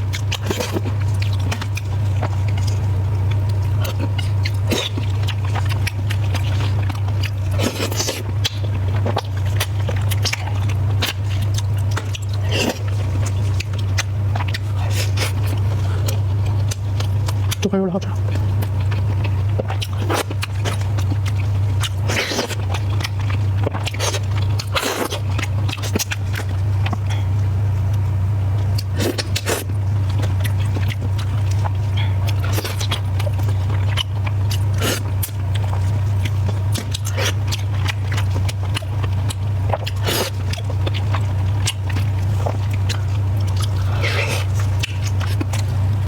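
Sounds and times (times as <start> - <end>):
person chewing food: 0.0 - 46.0
steady low hum: 0.0 - 46.0.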